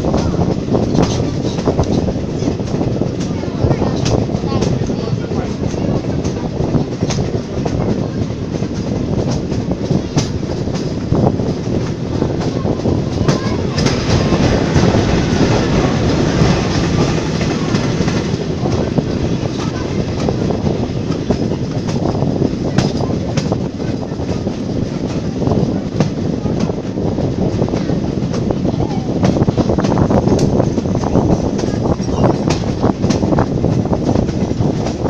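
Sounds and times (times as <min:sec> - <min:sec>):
train wheels rumbling: 0:00.0 - 0:35.0.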